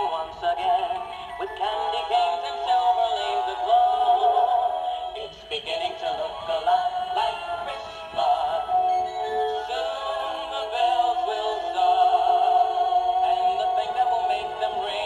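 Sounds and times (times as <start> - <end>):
electronic toy singing with music: 0.0 - 15.0.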